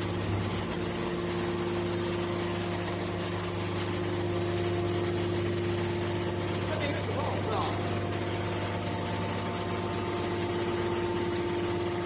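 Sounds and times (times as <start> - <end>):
hydraulic pump motor humming: 0.0 - 12.0.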